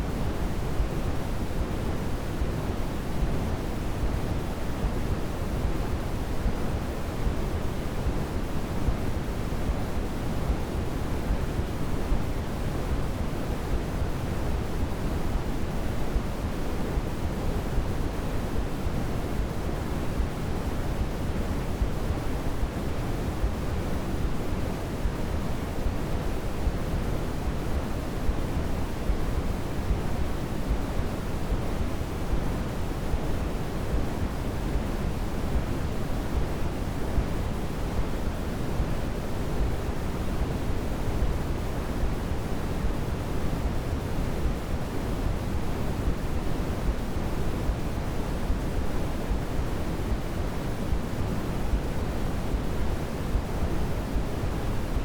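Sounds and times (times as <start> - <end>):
steady pink noise: 0.0 - 55.0.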